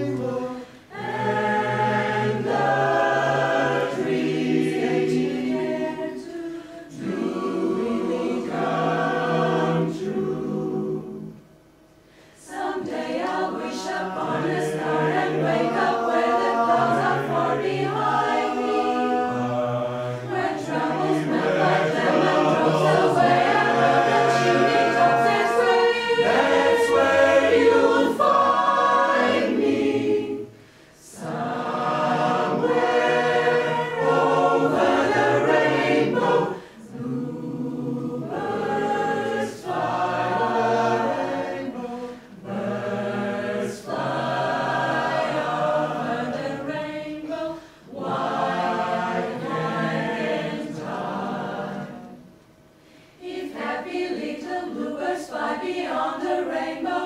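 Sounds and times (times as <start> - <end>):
mixed choir singing a cappella: 0.0 - 11.6, 12.3 - 57.0.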